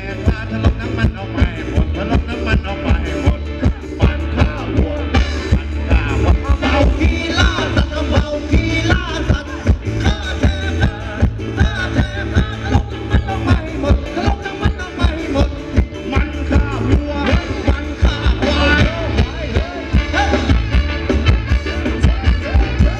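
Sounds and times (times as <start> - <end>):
drum beat: 0.0 - 22.9
heavy bass: 0.0 - 22.9.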